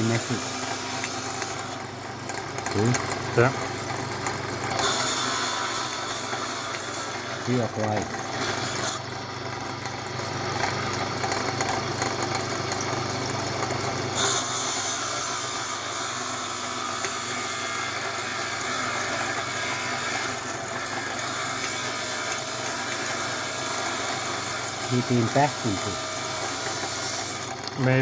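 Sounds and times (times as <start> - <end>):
grinding wheel grinding stone: 0.0 - 28.0.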